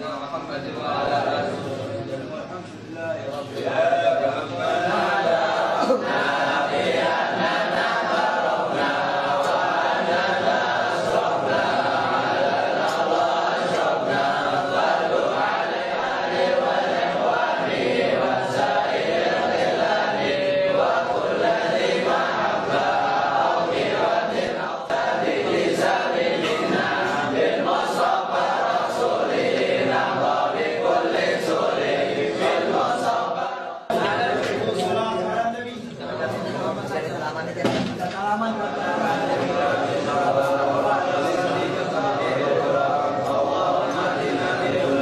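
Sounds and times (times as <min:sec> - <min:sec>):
crowd of men chanting: 0:03.6 - 0:35.2, 0:38.4 - 0:45.0.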